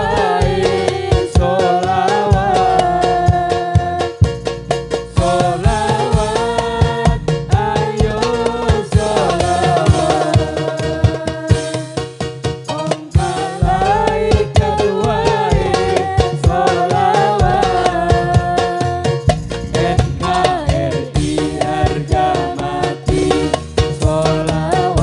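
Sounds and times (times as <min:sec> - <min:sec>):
frame drums beating: 0:00.0 - 0:25.0.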